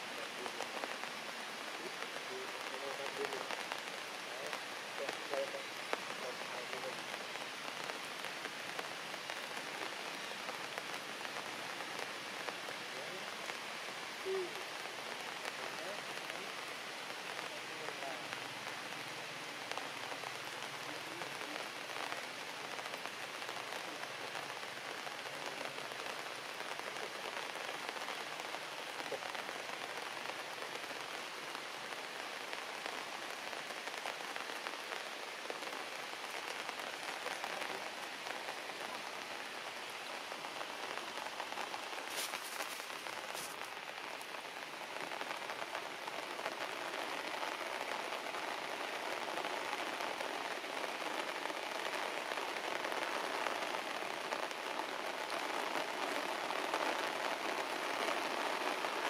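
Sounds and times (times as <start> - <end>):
heavy rain on grass and leaves: 0.0 - 59.0.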